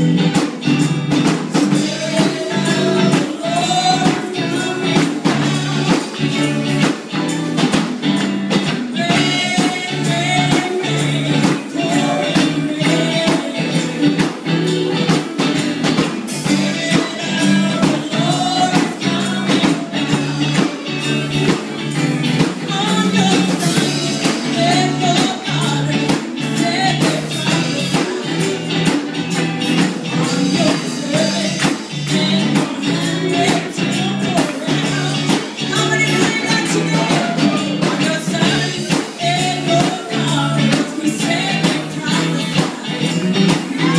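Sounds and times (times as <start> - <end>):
instrumental backing: 0.0 - 43.9
person singing gospel: 0.0 - 43.9
tambourine beat: 0.0 - 43.9.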